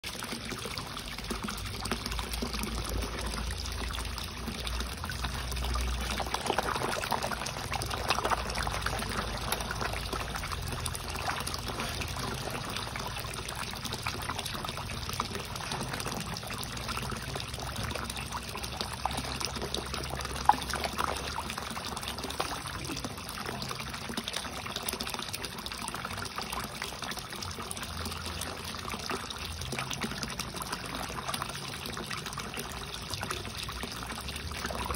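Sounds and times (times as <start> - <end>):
water trickling into pond: 0.0 - 34.9.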